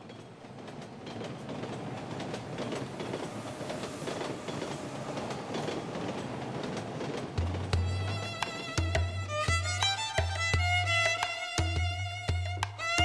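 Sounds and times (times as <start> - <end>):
train rumbling on rails: 0.0 - 13.0
wheels clicking on rails: 0.0 - 13.0.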